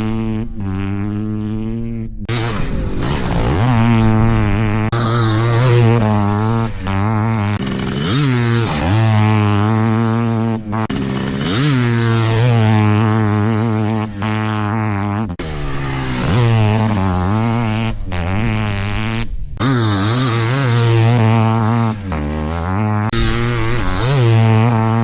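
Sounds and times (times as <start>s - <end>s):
motocross bike revving: 0.0s - 25.0s.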